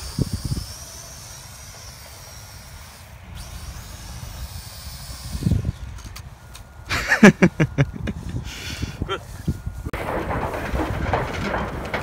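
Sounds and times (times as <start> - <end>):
wind rumbling on microphone: 0.0 - 1.2, 2.8 - 12.0
drone propellers whining: 0.0 - 12.0.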